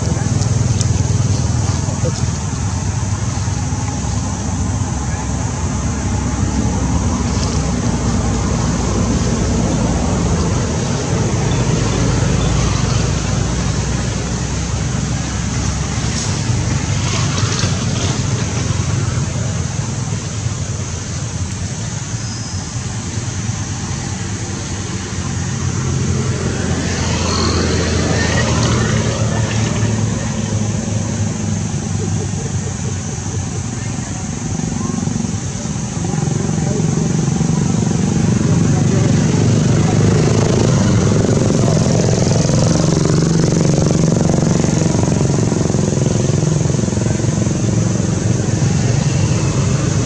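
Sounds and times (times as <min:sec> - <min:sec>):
low rumbling background noise: 0:00.0 - 0:50.0.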